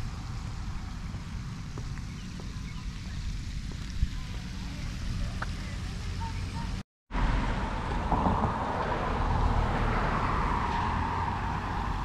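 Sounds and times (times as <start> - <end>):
car passing: 0.0 - 12.0
low outdoor rumble: 0.0 - 12.0.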